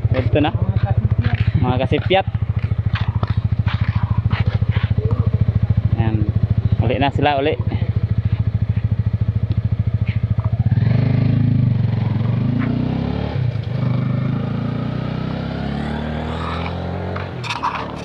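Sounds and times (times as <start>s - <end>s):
small motorcycle engine revving: 1.1s - 18.0s.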